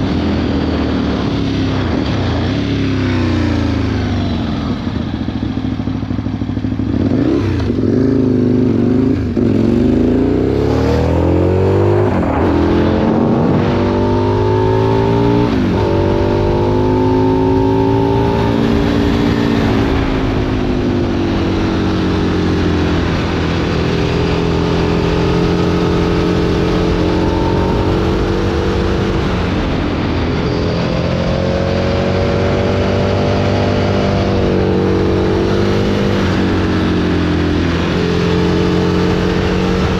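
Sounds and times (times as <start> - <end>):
motorcycle accelerating through upshifts: 0.0 - 39.9.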